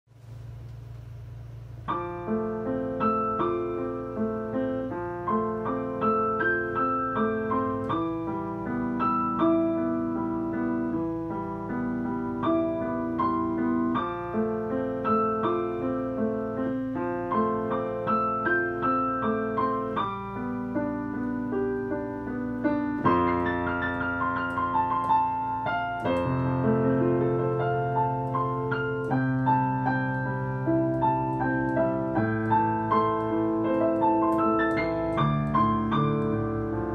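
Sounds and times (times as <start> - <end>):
slow solo piano ballad: 1.8 - 36.9.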